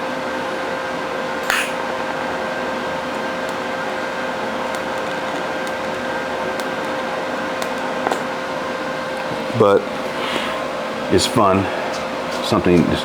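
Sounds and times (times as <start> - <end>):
fan whirring hum: 0.0 - 13.0.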